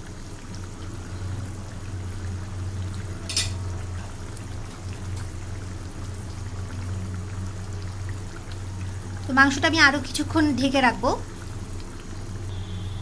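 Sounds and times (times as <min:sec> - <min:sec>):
curry bubbling with small pops: 0:00.0 - 0:12.4.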